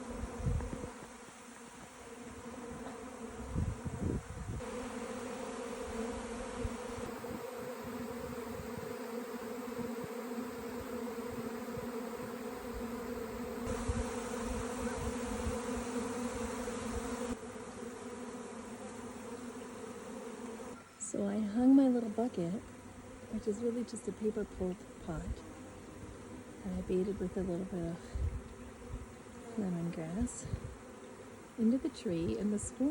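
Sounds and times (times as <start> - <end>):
bee swarm buzzing: 0.0 - 32.9.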